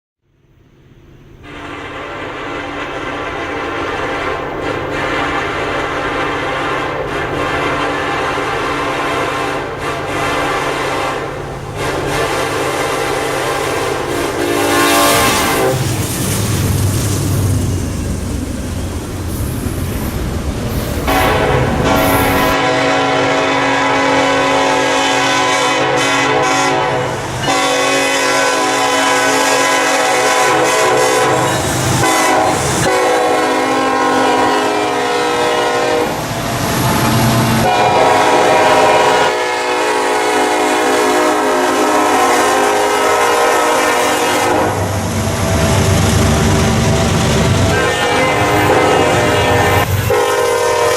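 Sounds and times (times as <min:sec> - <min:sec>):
locomotive air horn blasts: 0:01.4 - 0:15.9, 0:21.0 - 0:50.9.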